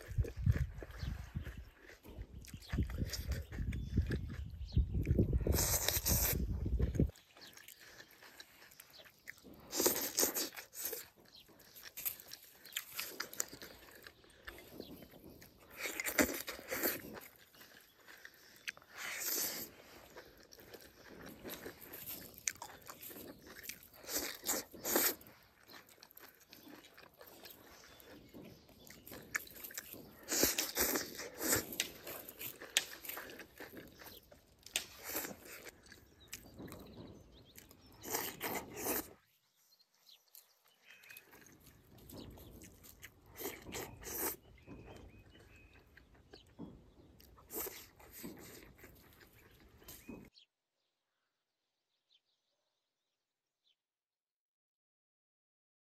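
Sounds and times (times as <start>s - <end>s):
person chewing and crunching food: 0.0s - 50.4s.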